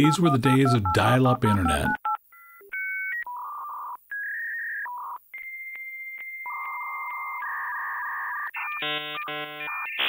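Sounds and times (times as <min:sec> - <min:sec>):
dial-up modem tones: 0:00.0 - 0:10.0.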